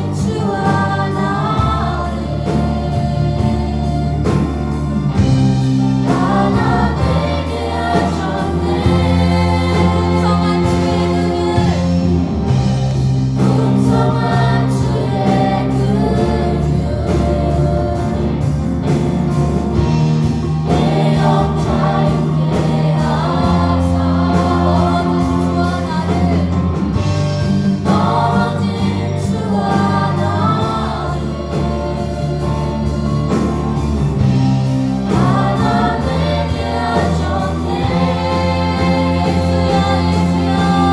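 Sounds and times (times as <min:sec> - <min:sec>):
group singing worship song: 0:00.0 - 0:40.9
live band playing: 0:00.0 - 0:40.9.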